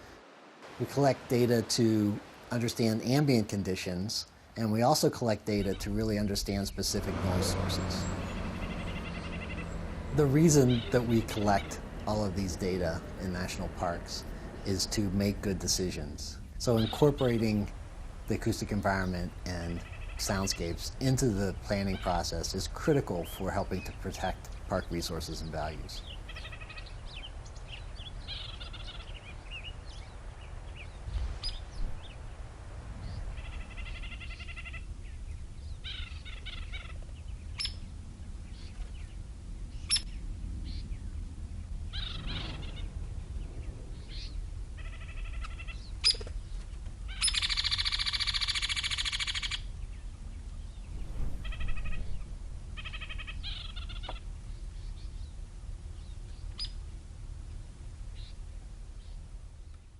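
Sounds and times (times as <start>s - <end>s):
low background rumble: 0.0s - 59.9s
birds calling: 0.7s - 59.9s.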